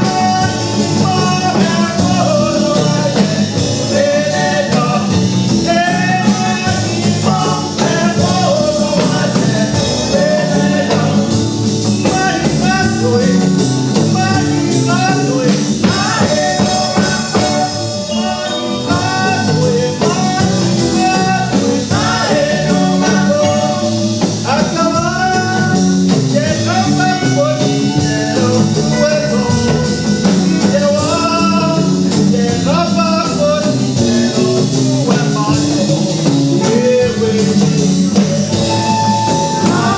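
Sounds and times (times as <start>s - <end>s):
song with singing and instruments: 0.0s - 39.9s.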